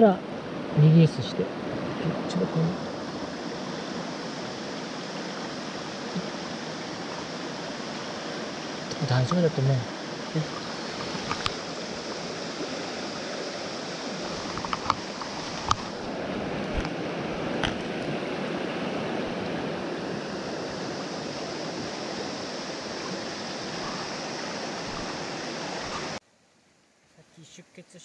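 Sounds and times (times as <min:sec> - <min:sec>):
mountain stream over stones: 0:00.0 - 0:26.2.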